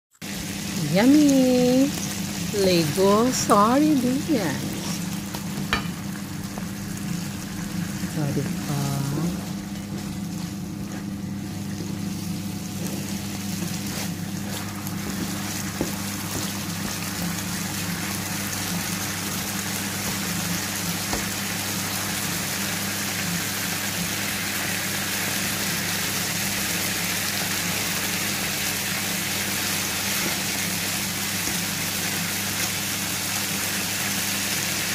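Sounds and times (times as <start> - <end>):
fish sizzling in a frying pan: 0.2 - 34.9.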